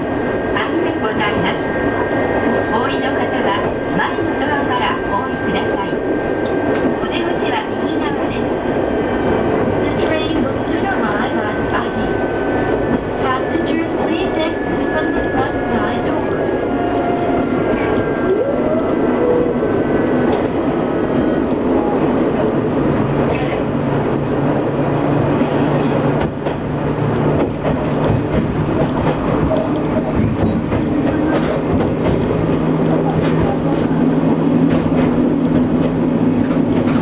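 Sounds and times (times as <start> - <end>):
train wheels clattering on rail: 0.0 - 19.0, 20.1 - 37.0.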